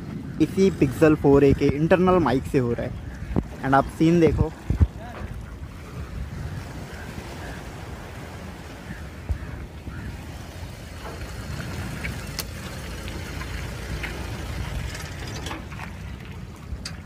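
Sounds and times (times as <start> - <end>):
sea water lapping at shore: 0.0 - 17.0
wind rumbling on microphone: 0.0 - 17.0.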